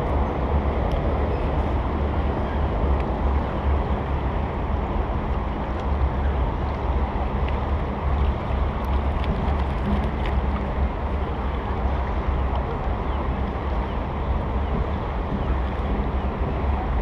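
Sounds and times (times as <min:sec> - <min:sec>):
fast-flowing river water: 0:00.0 - 0:17.0.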